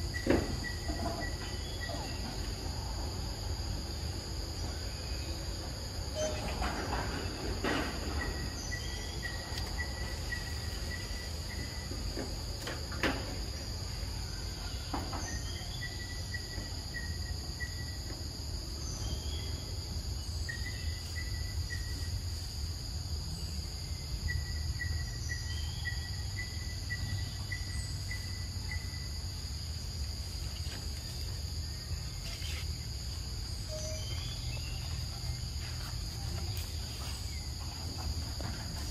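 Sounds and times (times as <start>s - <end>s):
short insect chirps: 0.0s - 18.1s, 23.4s - 37.6s
insects droning: 0.0s - 38.9s.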